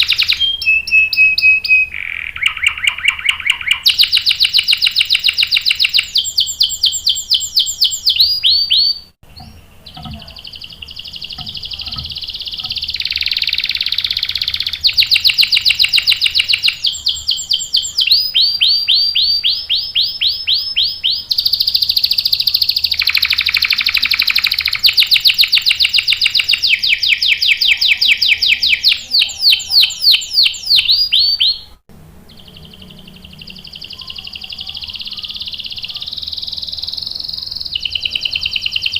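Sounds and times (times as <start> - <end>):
canary singing rolling trills: 0.0 - 38.9.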